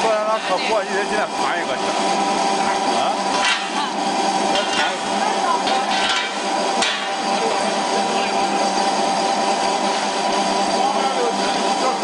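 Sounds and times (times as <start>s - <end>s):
pellet mill machine hum: 0.0s - 12.0s
grinding rattle: 1.3s - 12.0s.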